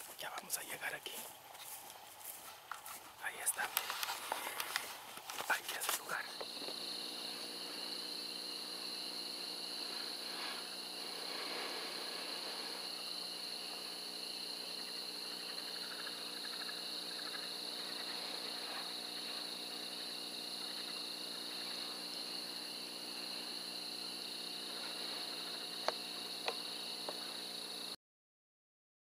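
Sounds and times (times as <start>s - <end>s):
insects trilling: 0.0s - 28.0s
pulsing insect chirps: 3.2s - 28.0s.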